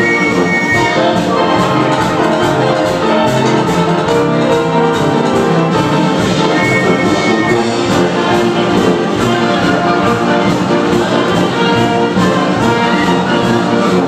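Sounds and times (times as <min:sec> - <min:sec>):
live band playing ragtime: 0:00.0 - 0:14.0.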